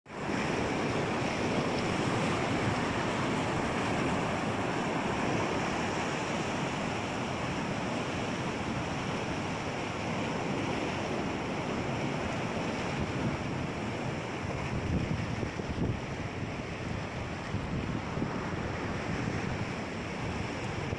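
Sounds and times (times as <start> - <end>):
surf breaking against rocks: 0.1 - 20.9
wind buffeting microphone: 0.2 - 20.9.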